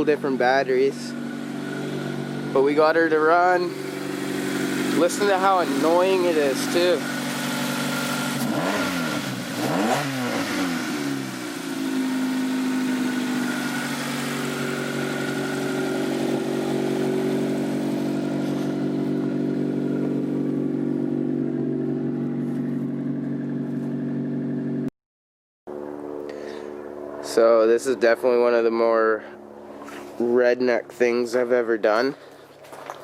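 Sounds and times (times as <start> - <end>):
car engine revving and idling: 0.0 - 24.9, 25.7 - 31.5.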